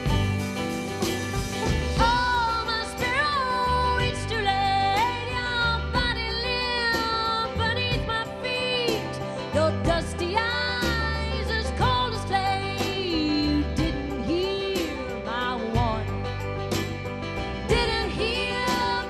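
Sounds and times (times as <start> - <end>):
instrumental backing with bass: 0.0 - 19.0
woman singing: 2.0 - 16.5, 17.6 - 19.0.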